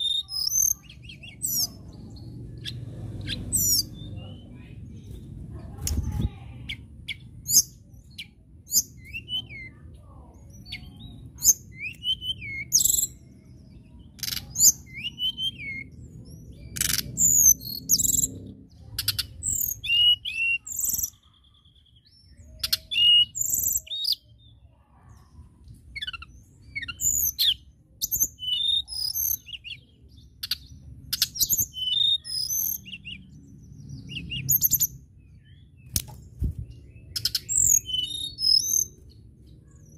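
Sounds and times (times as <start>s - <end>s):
bird singing: 0.0s - 5.3s, 6.0s - 39.9s.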